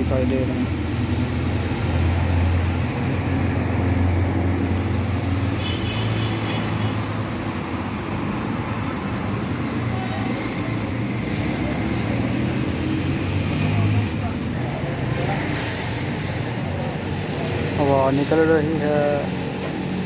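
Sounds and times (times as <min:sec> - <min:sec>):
street noise: 0:00.0 - 0:20.0.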